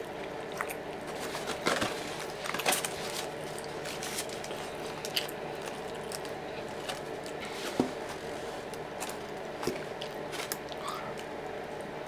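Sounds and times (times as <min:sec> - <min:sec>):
crunching mouth sounds: 0:00.0 - 0:07.5, 0:08.6 - 0:12.0
steady low hum: 0:00.0 - 0:12.0.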